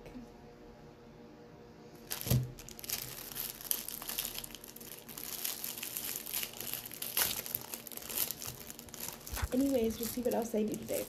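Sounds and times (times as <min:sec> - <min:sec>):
crinkling crackling rustle: 0:02.0 - 0:11.0.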